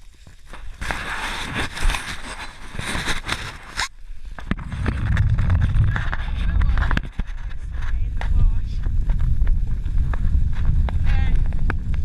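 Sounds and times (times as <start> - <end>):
bike tyres crunching on snow: 0.0 - 12.0
wind on microphone: 0.7 - 12.0.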